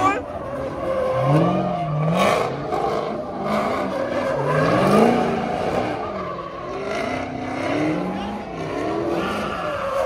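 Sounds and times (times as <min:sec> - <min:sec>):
car engine revving hard: 0:00.6 - 0:09.7.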